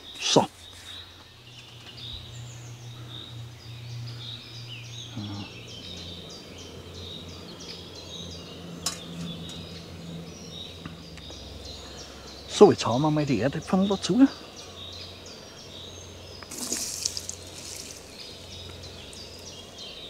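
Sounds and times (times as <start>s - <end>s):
birds chirping and singing: 0.0s - 20.0s
steady low hum: 0.0s - 20.0s.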